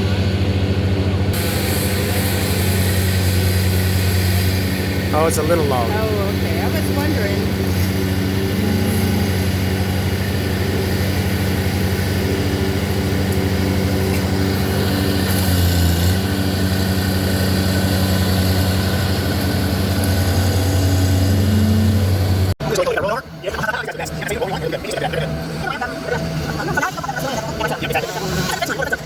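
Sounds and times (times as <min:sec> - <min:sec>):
large engine running steadily: 0:00.0 - 0:29.0.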